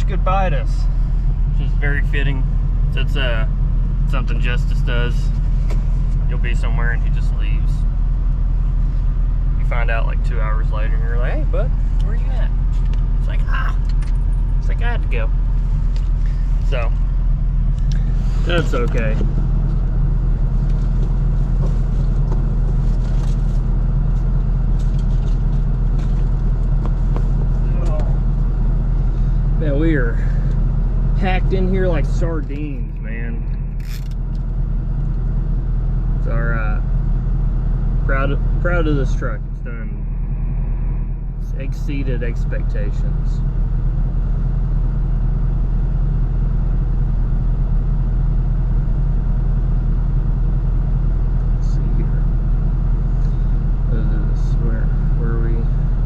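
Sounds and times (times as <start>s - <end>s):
engine droning from inside cab: 0.0s - 56.0s.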